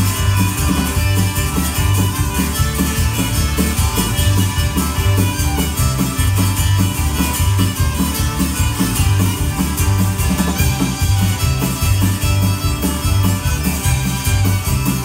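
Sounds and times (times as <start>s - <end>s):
accordion: 0.0s - 15.0s
bass guitar: 0.0s - 15.0s
bowed fiddle: 0.0s - 15.0s
drums: 0.0s - 15.0s
strummed acoustic guitar: 0.0s - 15.0s.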